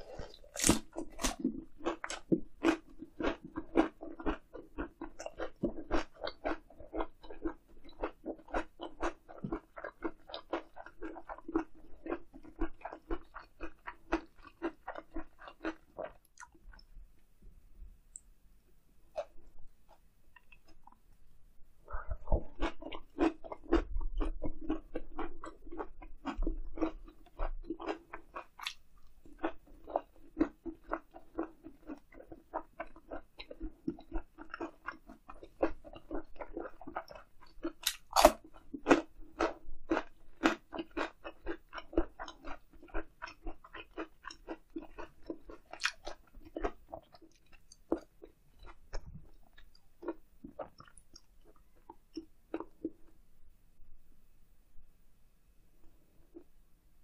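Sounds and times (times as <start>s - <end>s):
chewing crunches and wet bites: 0.0s - 16.9s, 22.1s - 53.1s.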